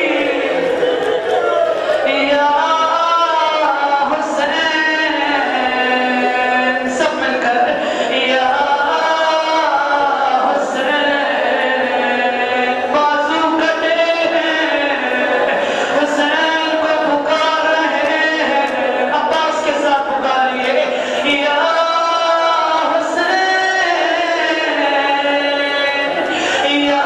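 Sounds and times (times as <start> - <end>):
person chanting melodic recitation: 0.0 - 27.0.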